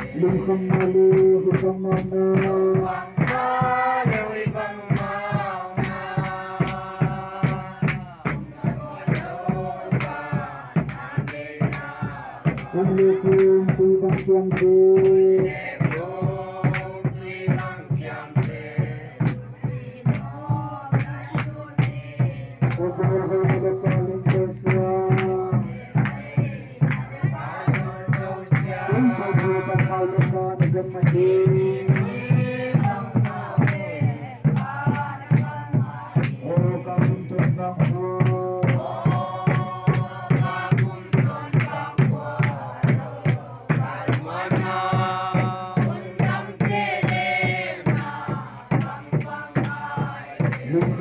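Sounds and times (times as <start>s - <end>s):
man singing into a microphone: 0.0s - 8.4s, 9.1s - 26.9s, 27.5s - 43.0s, 43.6s - 47.0s, 49.0s - 51.0s
barrel drum beating: 0.0s - 51.0s
group singing a hymn: 0.0s - 51.0s.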